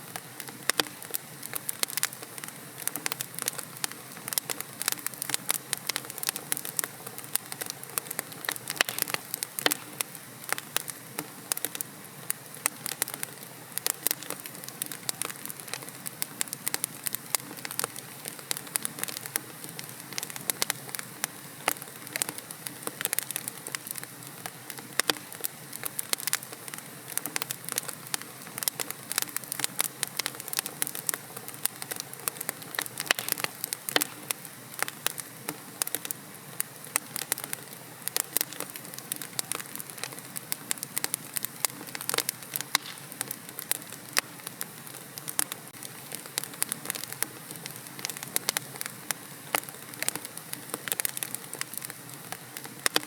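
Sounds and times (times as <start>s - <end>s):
wood logs crackling and popping: 0.0s - 53.0s.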